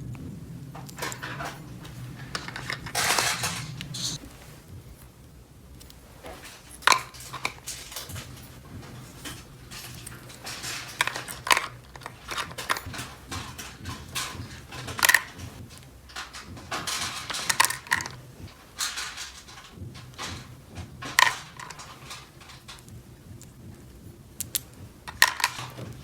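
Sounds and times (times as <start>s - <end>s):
plastic toy pieces clattering: 0.8s - 4.2s, 6.3s - 23.0s, 24.4s - 26.0s.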